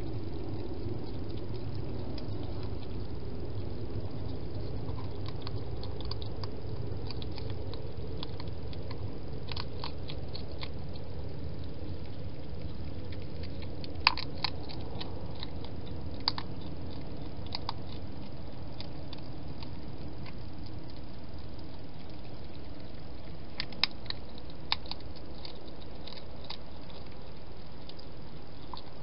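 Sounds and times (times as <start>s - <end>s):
hedgehog chewing crunches: 0.0s - 29.0s
steady low hiss: 0.0s - 29.0s.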